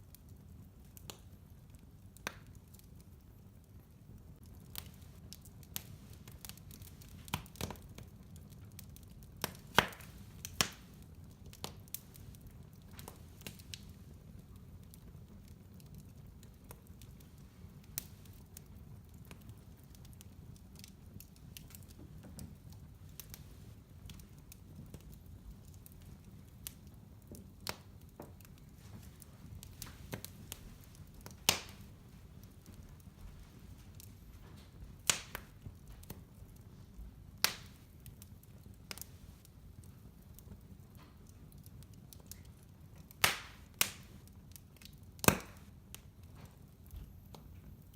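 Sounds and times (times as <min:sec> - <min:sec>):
fire crackling and popping: 0:00.0 - 0:47.9
low fire rumble: 0:00.0 - 0:47.9.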